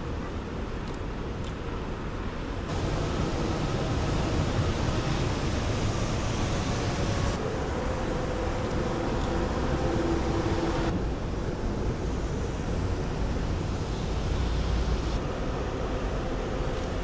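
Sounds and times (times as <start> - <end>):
distant city traffic: 0.0 - 17.0
wind: 0.0 - 17.0.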